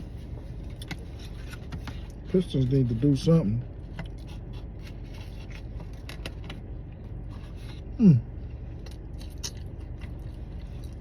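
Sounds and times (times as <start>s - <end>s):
chewing and paper crinkling: 0.1s - 11.0s.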